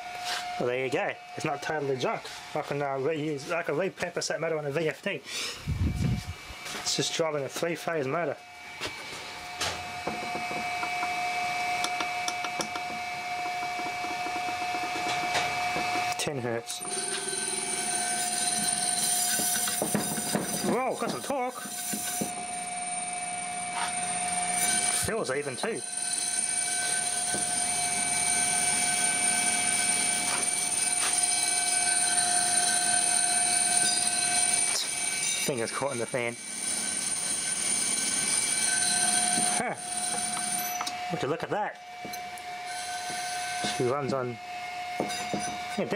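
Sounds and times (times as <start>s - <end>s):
electric motor high whine: 5.5s - 6.8s, 8.2s - 41.2s, 41.8s - 45.9s.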